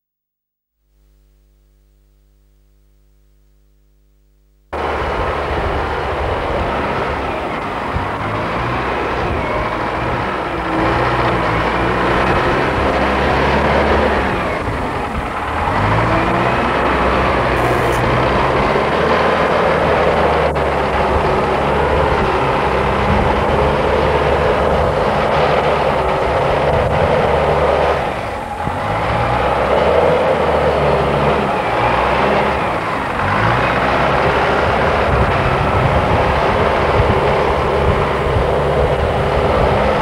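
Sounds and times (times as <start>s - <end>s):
diesel engine revving under load: 4.8s - 40.0s.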